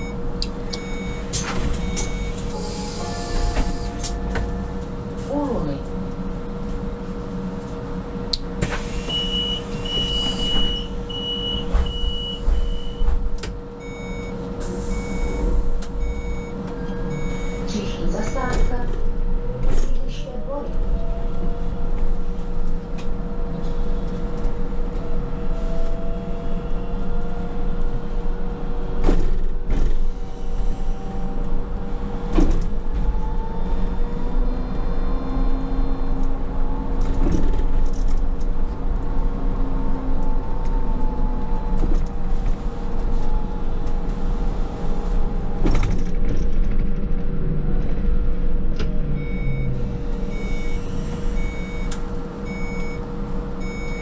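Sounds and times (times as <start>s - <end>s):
low hum and rumble: 0.0s - 54.0s
trolleybus electric drive whine: 0.0s - 54.0s.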